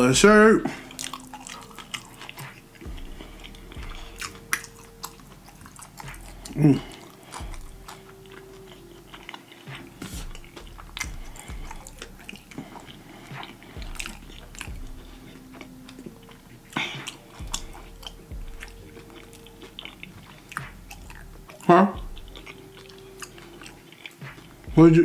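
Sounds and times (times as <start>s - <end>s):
chewing with wet mouth smacks: 0.0s - 24.7s.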